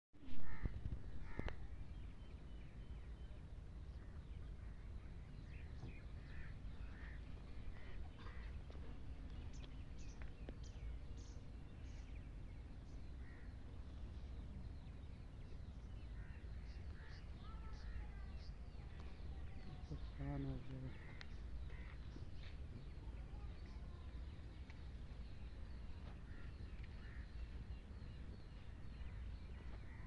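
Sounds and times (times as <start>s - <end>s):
bird calls and chirps: 0.2s - 30.0s
steady low rumble: 0.2s - 30.0s.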